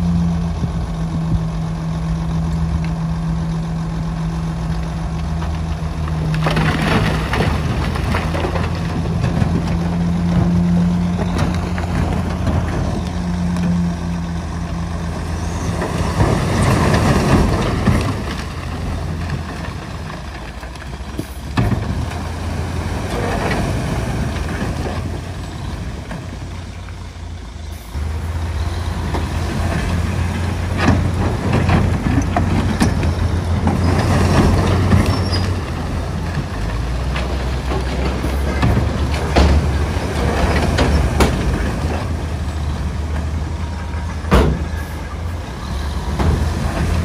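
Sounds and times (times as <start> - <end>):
diesel heavy machinery droning: 0.0 - 47.0.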